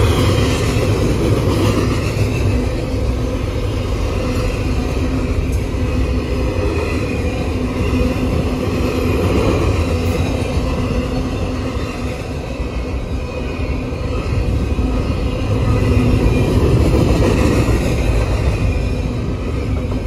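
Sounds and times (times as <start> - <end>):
train rumbling by: 0.0 - 20.0.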